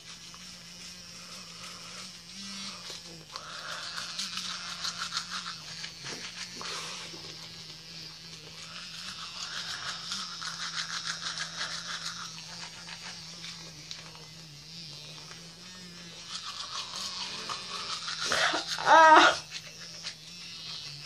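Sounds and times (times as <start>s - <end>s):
toothbrush scrubbing teeth: 0.0s - 21.0s.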